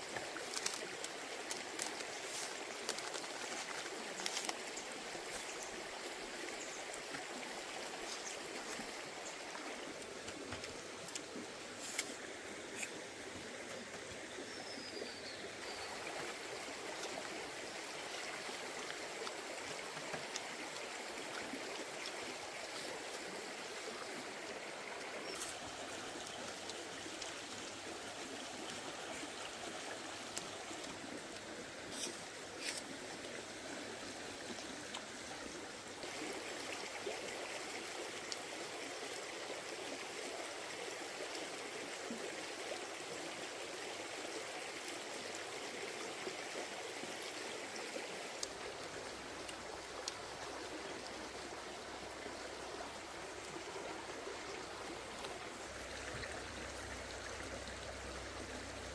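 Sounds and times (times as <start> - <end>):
forest stream flowing: 0.0 - 58.9.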